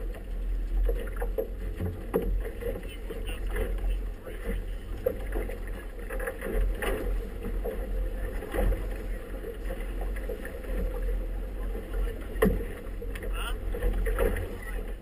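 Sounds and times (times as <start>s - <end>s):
water slapping against hull: 0.0s - 15.0s.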